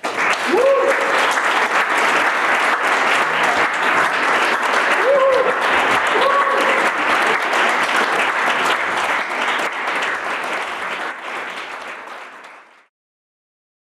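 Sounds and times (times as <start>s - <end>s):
audience cheering: 0.0s - 12.2s
audience applauding: 0.0s - 12.9s.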